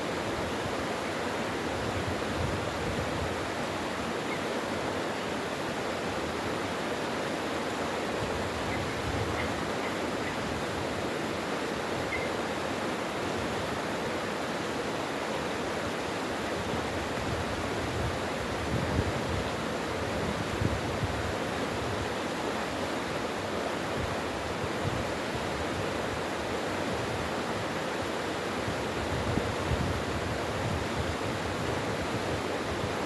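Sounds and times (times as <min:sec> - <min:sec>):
stream water rushing over rocks: 0:00.0 - 0:33.0.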